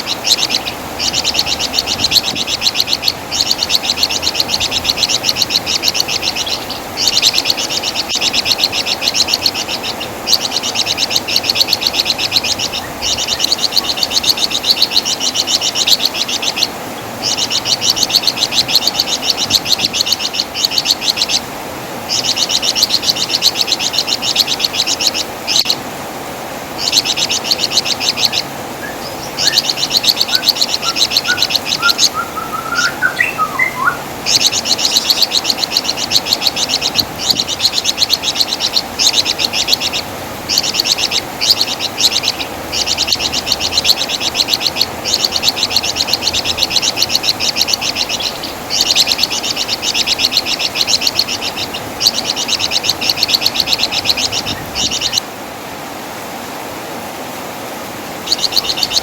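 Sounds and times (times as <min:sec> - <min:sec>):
bird singing high chattering trills: 0:00.0 - 0:21.5, 0:22.1 - 0:25.8, 0:26.8 - 0:55.2, 0:58.2 - 0:59.0.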